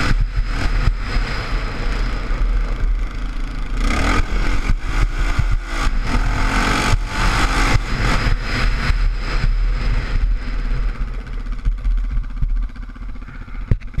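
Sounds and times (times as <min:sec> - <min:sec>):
quad engine running: 0:00.0 - 0:14.0.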